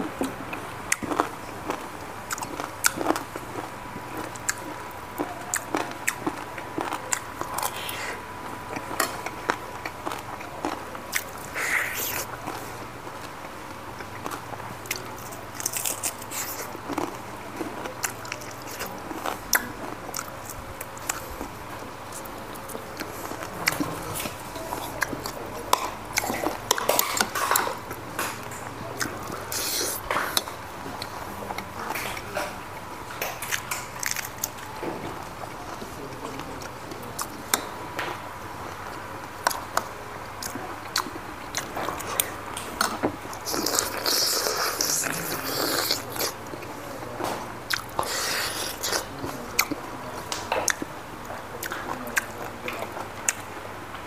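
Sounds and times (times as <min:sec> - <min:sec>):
chewing and biting food: 0:00.1 - 0:53.5.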